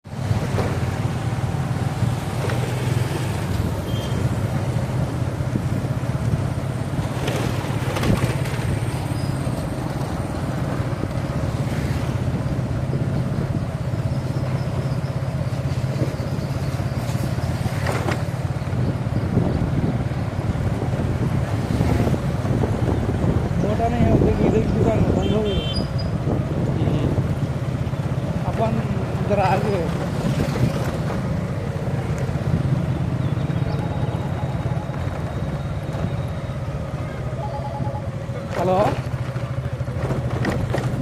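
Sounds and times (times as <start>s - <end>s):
highway traffic noise: 0.0s - 41.0s
vehicles passing: 0.0s - 41.0s.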